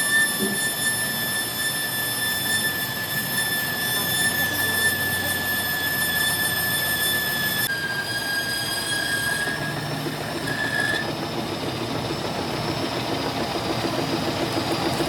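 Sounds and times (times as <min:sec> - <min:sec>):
machine high-pitched whine: 0:00.0 - 0:15.0.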